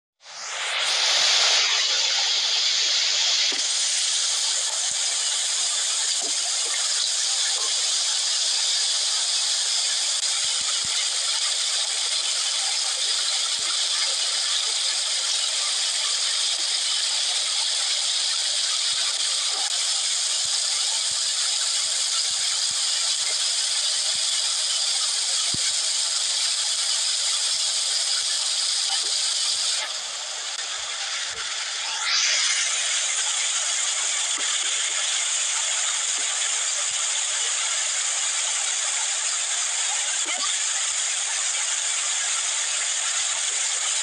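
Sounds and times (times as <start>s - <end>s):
stream water rushing over stones: 0.6s - 44.0s.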